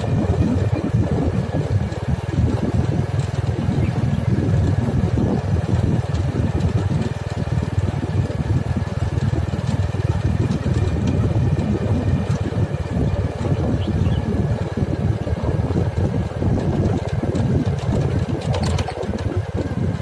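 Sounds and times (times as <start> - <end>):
machinery engine running: 0.0 - 20.0.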